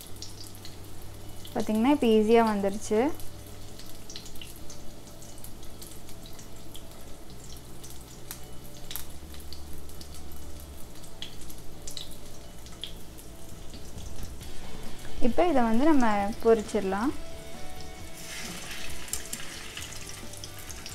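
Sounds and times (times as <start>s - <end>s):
kebabs sizzling in oil: 0.0s - 20.9s.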